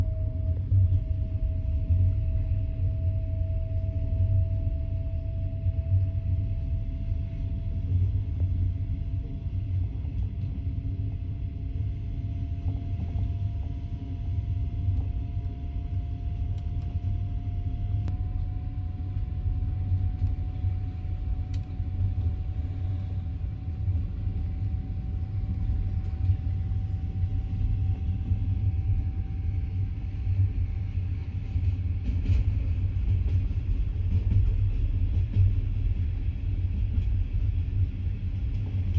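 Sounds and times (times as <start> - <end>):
train rumbling along track: 0.0 - 38.9.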